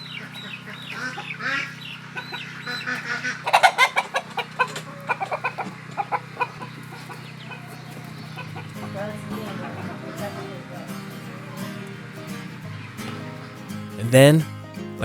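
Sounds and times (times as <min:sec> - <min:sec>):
chickens clucking: 0:00.0 - 0:13.7.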